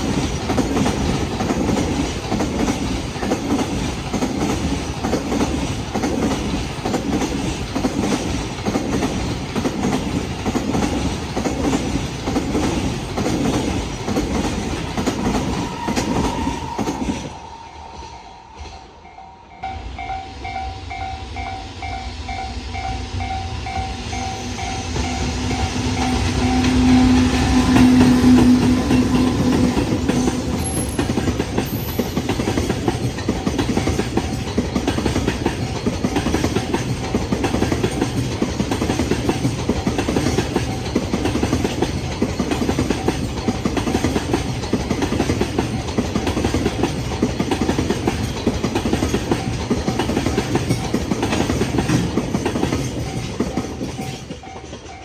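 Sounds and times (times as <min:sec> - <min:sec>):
train wheels clattering over rails: 0:00.0 - 0:19.1, 0:22.2 - 0:55.0.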